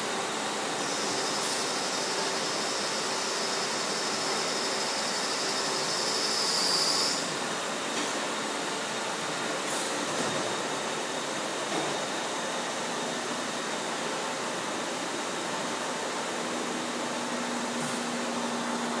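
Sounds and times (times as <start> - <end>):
factory machinery humming: 0.0 - 19.0.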